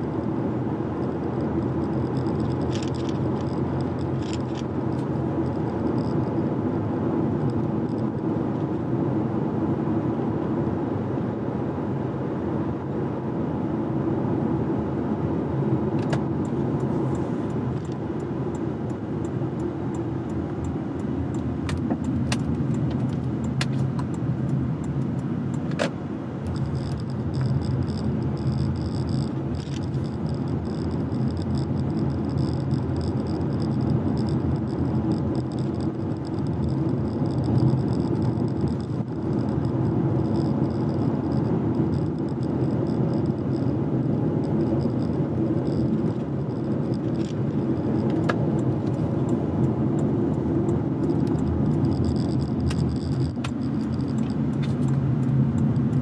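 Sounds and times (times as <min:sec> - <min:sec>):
engine hum: 0:00.0 - 0:56.0
tyre and road noise: 0:00.0 - 0:56.0.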